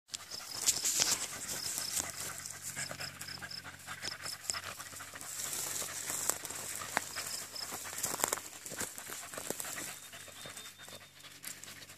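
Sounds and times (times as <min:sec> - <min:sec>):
dogs panting and snuffling: 0:00.1 - 0:11.9
rustling through grass: 0:00.2 - 0:03.2, 0:04.8 - 0:11.9.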